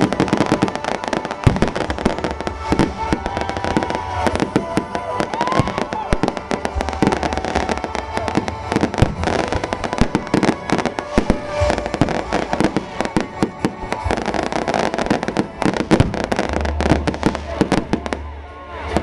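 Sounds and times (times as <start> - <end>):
fireworks and firecrackers banging: 0.0 - 19.0.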